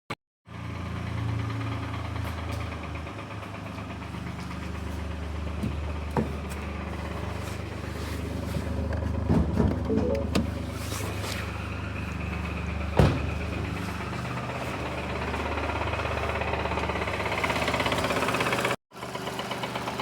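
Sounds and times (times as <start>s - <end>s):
car engine idling with rattle: 0.5s - 9.9s, 10.5s - 20.0s.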